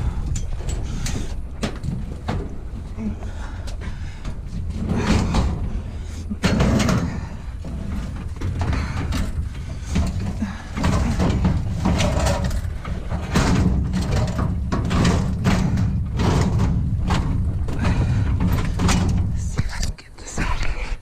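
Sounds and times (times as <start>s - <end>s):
scrap metal knocking and scraping: 0.0s - 20.6s
low rumble: 0.0s - 21.0s.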